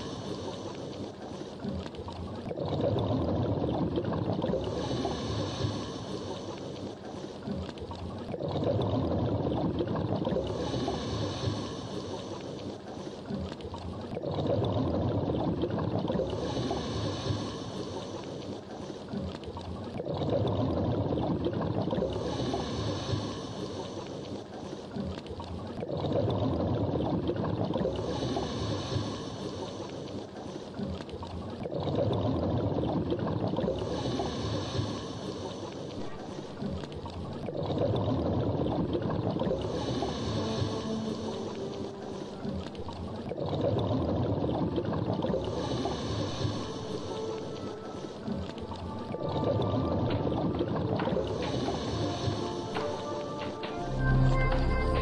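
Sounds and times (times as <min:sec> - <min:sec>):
exhaled bubbles rumbling: 0:00.0 - 0:55.0.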